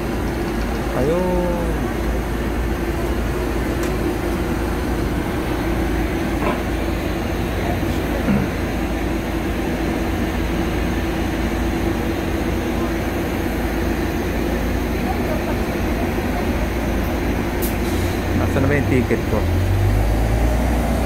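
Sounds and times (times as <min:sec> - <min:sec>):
bus engine rumbling: 0:00.0 - 0:21.0.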